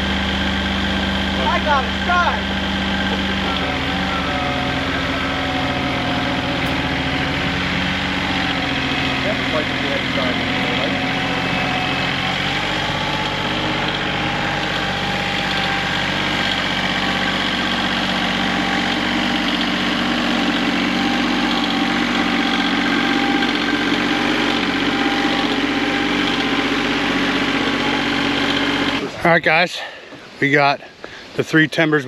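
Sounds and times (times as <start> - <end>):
engine idling: 0.0 - 29.3.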